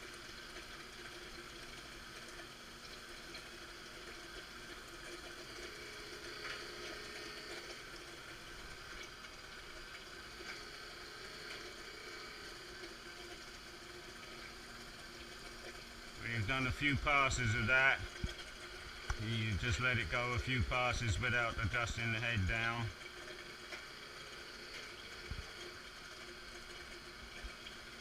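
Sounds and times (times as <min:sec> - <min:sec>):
coolant pump hissing: 0:03.2 - 0:28.0.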